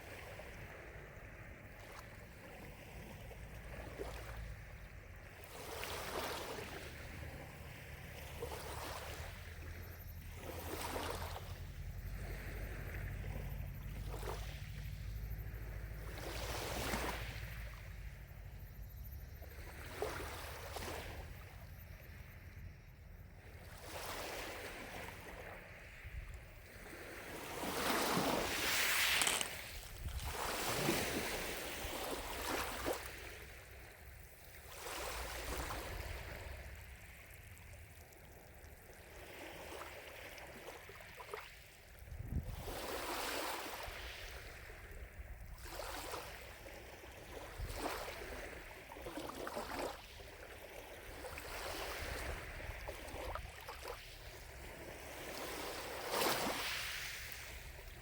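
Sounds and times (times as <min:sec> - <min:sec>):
lake waves lapping: 0:00.0 - 0:18.7, 0:19.4 - 0:22.2, 0:23.4 - 0:58.0.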